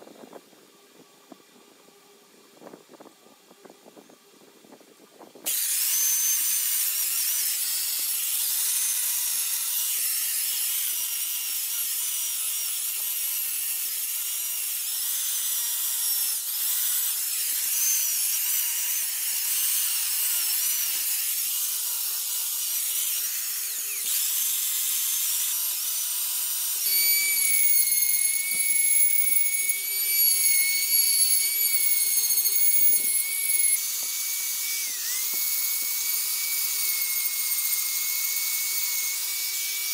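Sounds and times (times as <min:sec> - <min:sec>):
die grinder whining into wood: 0:05.5 - 0:39.9.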